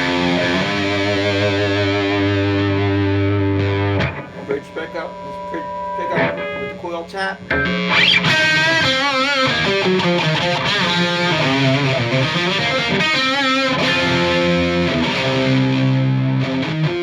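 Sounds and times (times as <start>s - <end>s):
overdriven electric guitar lead: 0.0s - 17.0s.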